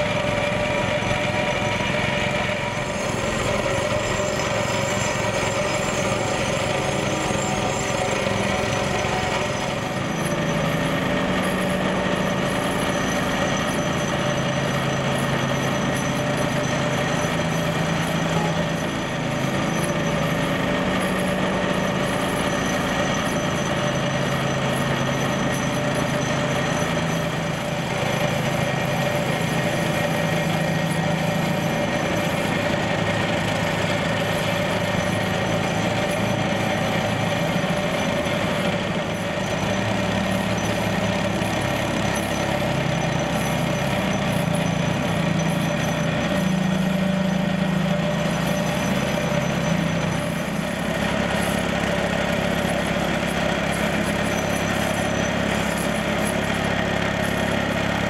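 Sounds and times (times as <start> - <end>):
low machine drone: 0.0 - 58.0
vibratory pile-driving hammer buzz: 0.0 - 58.0.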